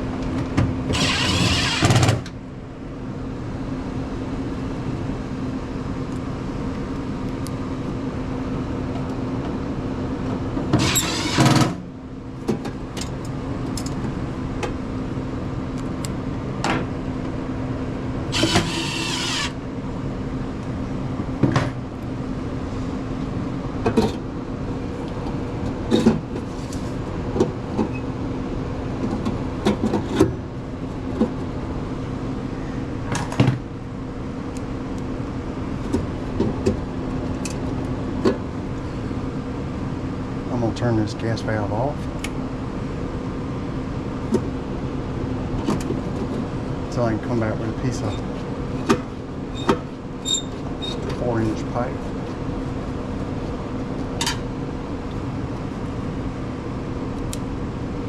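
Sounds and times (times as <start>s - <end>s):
furnace blower humming: 0.0s - 58.0s.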